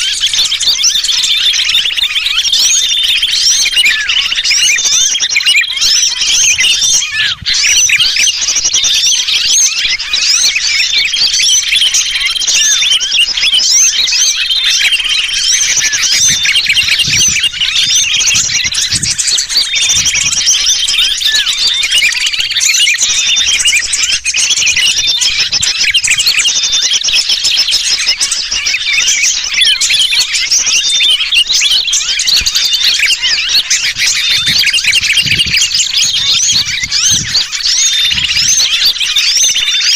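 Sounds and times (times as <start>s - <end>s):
bird distress calls: 0.0s - 39.9s
small birds chirping: 0.0s - 39.9s.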